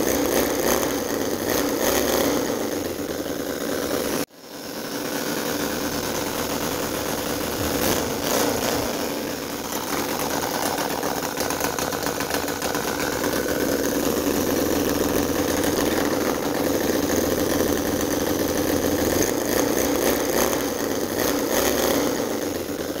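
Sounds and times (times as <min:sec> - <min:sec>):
small petrol engine running: 0:00.0 - 0:23.0.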